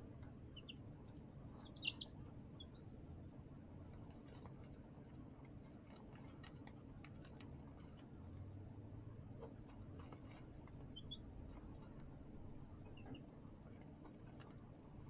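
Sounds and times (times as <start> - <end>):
chicks peeping softly: 0.0 - 8.1, 9.4 - 15.0
chicks pecking and scratching: 0.0 - 8.6, 9.3 - 15.0.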